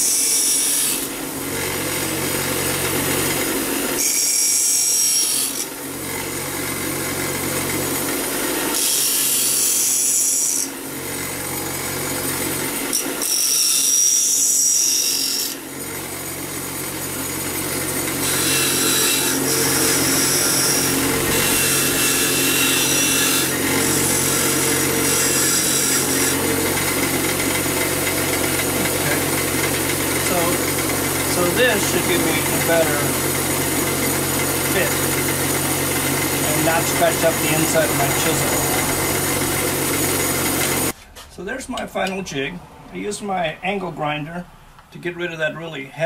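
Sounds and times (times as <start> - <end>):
bench grinder motor running: 0.0 - 41.0
steel grinding against wheel: 0.0 - 41.0.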